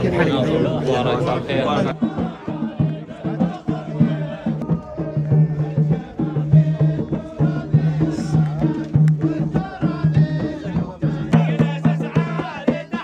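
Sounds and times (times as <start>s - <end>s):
drum beats: 0.0s - 13.0s
male voices chanting: 0.0s - 13.0s.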